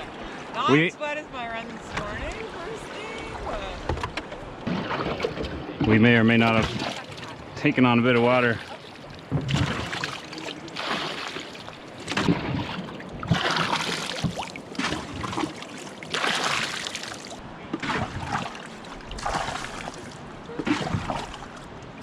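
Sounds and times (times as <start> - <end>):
rush of moving water: 0.0 - 22.0
water splashing around canoe: 1.8 - 22.0.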